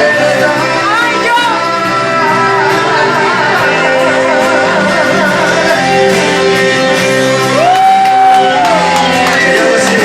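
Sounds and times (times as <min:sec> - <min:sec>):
live band playing pop ballad: 0:00.0 - 0:10.0.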